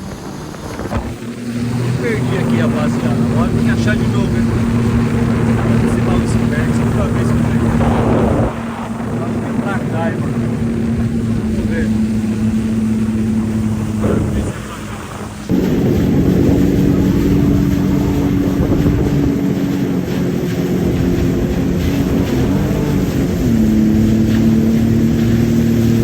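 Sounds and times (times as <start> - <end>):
jet ski engine: 0.0 - 26.0.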